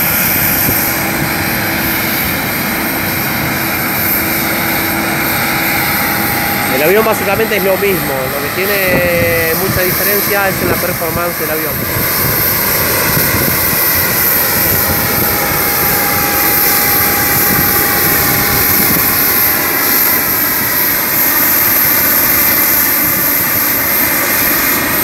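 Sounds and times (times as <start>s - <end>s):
jet aircraft engine whine: 0.0s - 25.0s.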